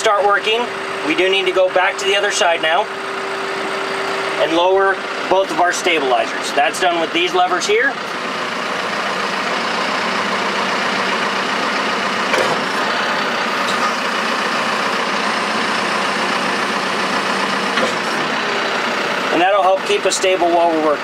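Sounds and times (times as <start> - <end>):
diesel engine running: 0.0 - 21.0
hydraulics working: 0.0 - 21.0.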